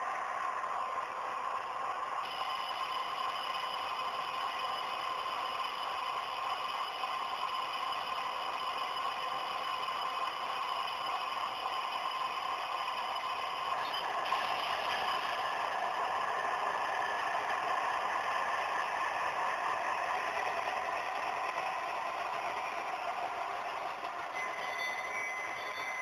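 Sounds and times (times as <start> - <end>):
model train wheels on rails: 0.0 - 26.0.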